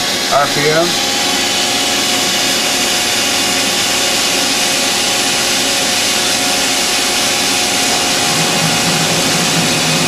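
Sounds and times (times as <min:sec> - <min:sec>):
machine hiss and hum: 0:00.0 - 0:10.0.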